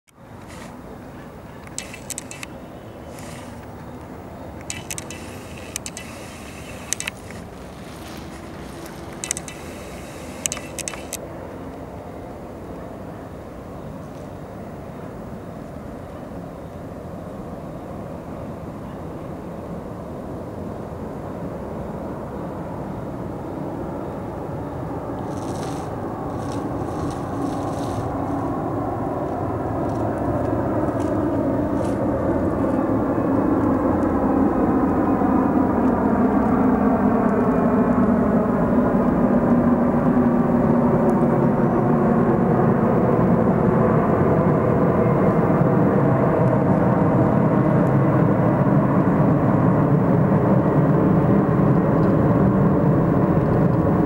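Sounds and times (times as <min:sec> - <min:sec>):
jet engines roaring: 0:00.2 - 0:16.0, 0:22.7 - 0:54.0.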